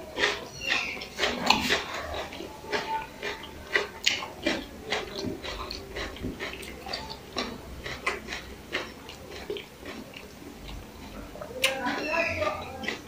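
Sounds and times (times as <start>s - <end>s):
chewing and lip smacking: 0.0s - 13.0s.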